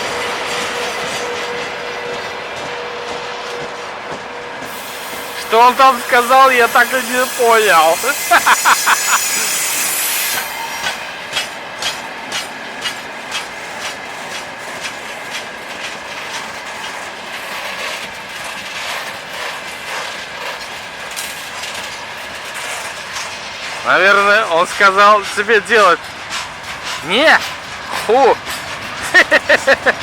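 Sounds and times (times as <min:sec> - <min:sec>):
train wheels clacking on rail joints: 0:00.0 - 0:30.0
steady rushing noise: 0:05.4 - 0:30.0.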